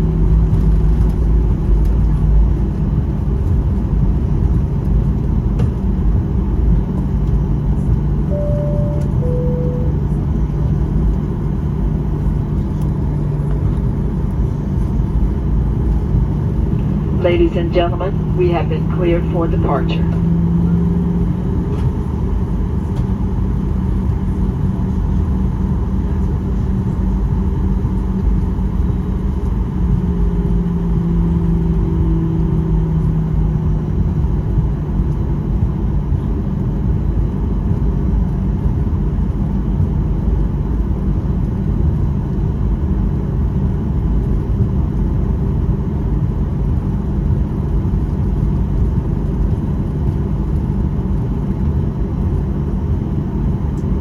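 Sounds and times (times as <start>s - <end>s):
airplane cabin rumble: 0.0s - 54.0s
engine hum: 0.0s - 54.0s.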